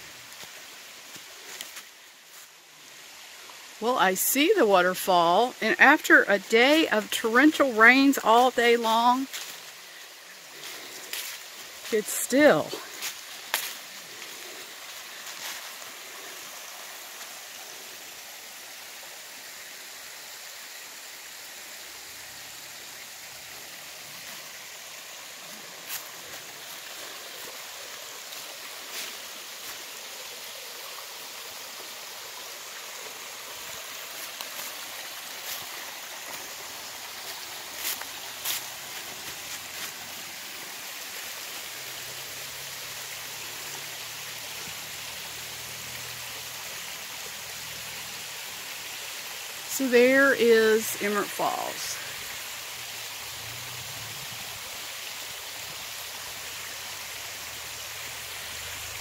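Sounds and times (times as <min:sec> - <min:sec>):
creek trickling over rocks: 0:00.0 - 0:59.0.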